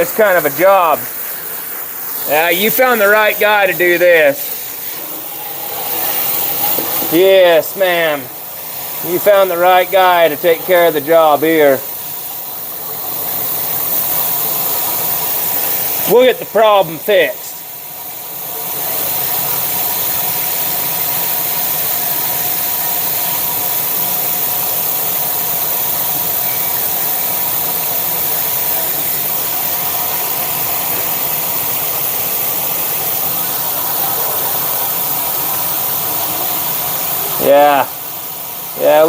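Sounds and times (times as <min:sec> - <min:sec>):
loud water spray: 0:00.0 - 0:39.0.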